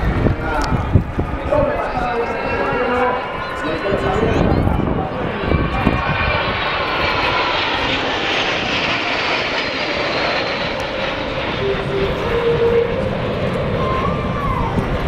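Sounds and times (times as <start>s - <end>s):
jet aircraft roar: 0.0s - 15.0s.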